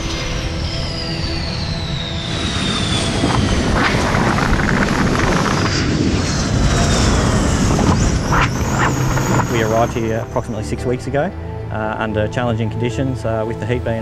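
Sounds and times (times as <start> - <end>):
high whine falling in pitch: 0.0 - 11.6
jet engines roaring on runway: 0.0 - 11.9.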